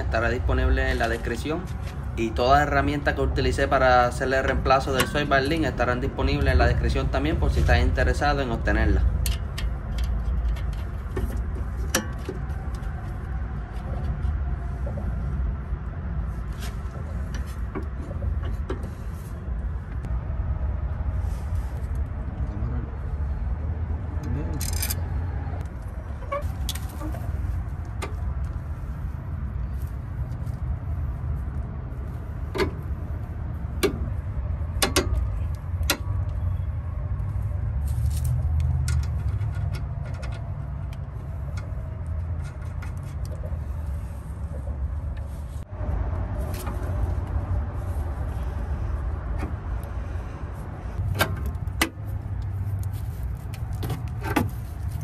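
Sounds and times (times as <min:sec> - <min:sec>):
low background rumble: 0:00.0 - 0:55.0.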